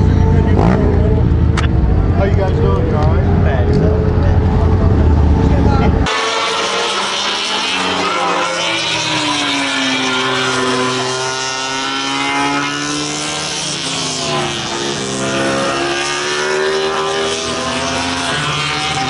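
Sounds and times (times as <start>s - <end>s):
racing motorcycle engines: 0.0s - 19.0s.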